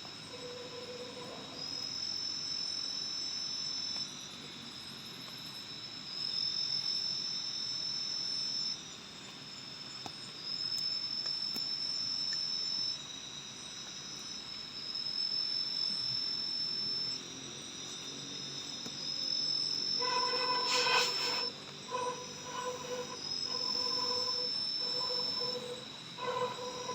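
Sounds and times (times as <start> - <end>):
high insect trill: 0.0 - 26.9
insects droning: 0.0 - 26.9
low buzzing insect call: 0.0 - 26.9.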